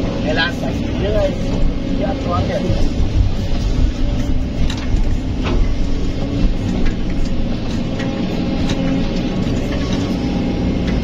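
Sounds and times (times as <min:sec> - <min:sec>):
excavator engine and hydraulics: 0:00.0 - 0:11.0.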